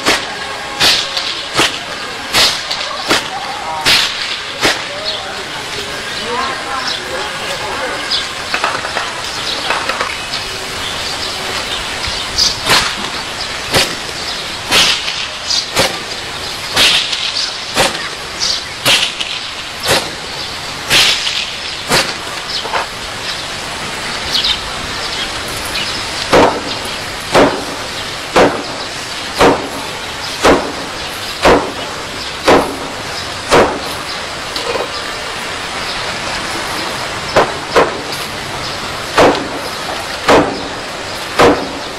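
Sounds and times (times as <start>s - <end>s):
steady background hiss: 0.0s - 41.9s.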